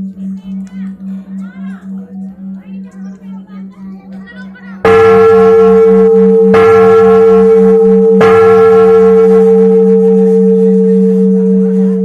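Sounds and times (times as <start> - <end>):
huge bell ringing: 0.0 - 12.0.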